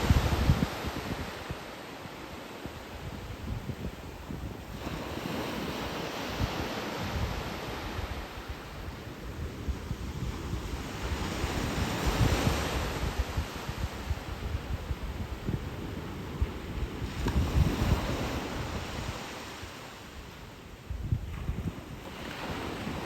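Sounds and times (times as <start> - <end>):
surf waves breaking: 0.0 - 20.5, 21.2 - 23.0
wind buffeting microphone: 0.0 - 23.0.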